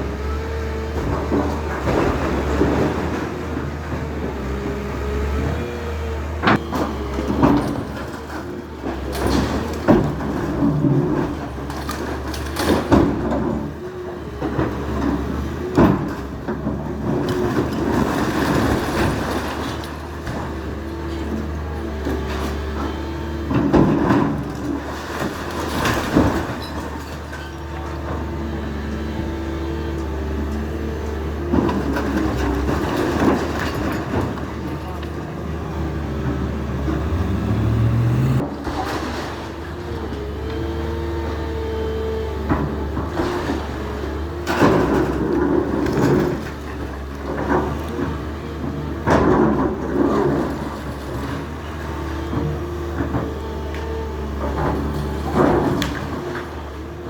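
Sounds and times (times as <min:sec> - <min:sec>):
heavy machine engine running: 0:00.0 - 0:57.0
demolition knocks and clanks: 0:00.2 - 0:57.0
debris crashing and scraping: 0:00.6 - 0:04.5, 0:06.5 - 0:28.6, 0:29.6 - 0:41.4, 0:42.3 - 0:57.0.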